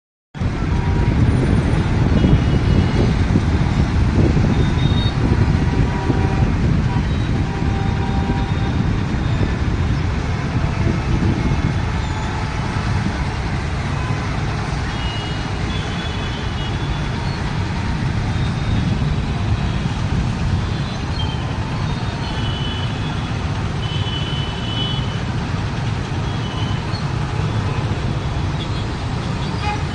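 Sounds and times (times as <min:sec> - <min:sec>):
traffic rumble of engines and tyres: 0:00.3 - 0:29.9.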